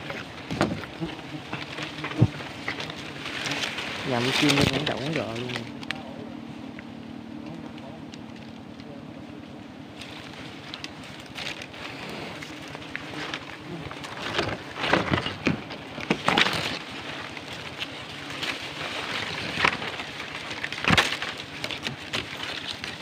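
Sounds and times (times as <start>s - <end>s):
dry leaves rustling and crackling: 0.0s - 23.0s.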